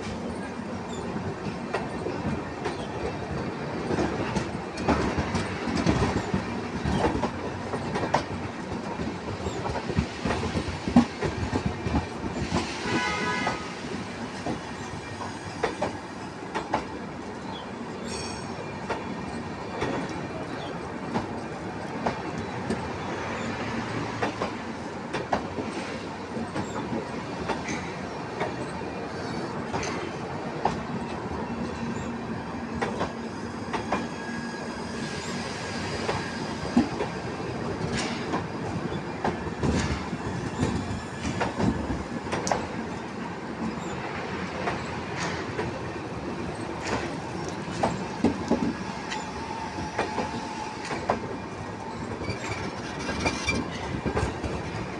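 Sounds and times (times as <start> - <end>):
train wheels clicking over rail joints: 0.0 - 17.0, 18.0 - 32.1, 32.7 - 54.9
train rumble: 0.0 - 54.9.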